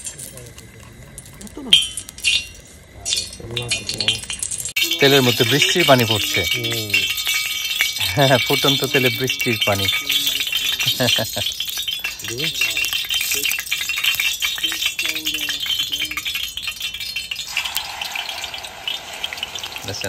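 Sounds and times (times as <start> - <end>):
frying hiss: 0.0 - 20.0
hot oil crackling and spattering: 0.0 - 20.0.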